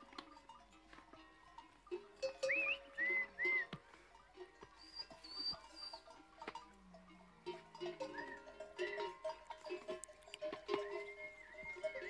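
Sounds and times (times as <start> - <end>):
camel bells clinking: 0.0 - 12.0.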